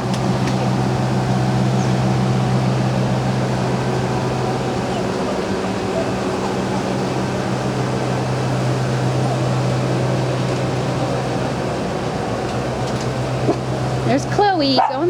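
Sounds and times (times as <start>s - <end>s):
ventilation fan humming: 0.0s - 15.0s.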